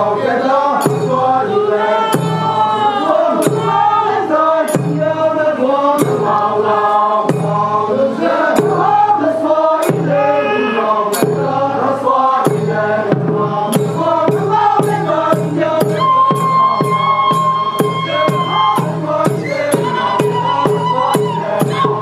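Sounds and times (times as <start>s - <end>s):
group singing a chant-like song: 0.0s - 22.0s
steady beat: 0.0s - 22.0s.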